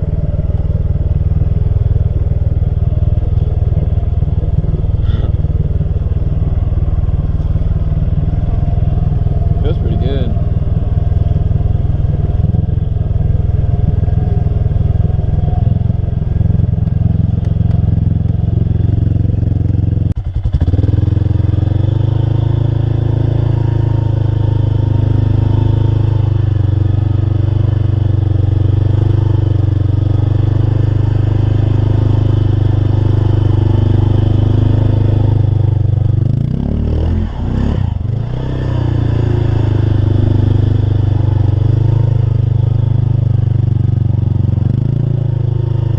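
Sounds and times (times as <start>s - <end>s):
loud racing vehicle engine: 0.0s - 45.9s.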